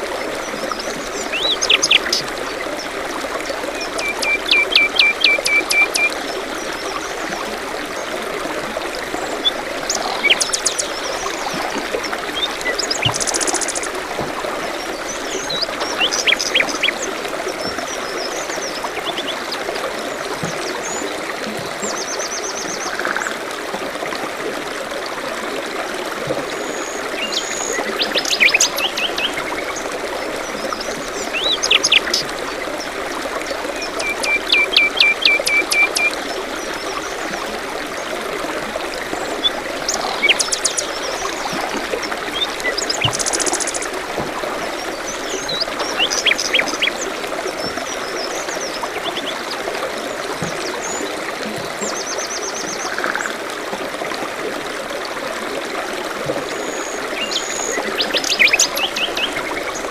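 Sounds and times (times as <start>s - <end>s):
songbirds singing: 0.0s - 2.9s, 3.7s - 8.2s, 9.1s - 23.1s, 26.6s - 38.2s, 39.0s - 53.2s, 56.5s - 59.9s
stream trickling: 0.0s - 59.9s.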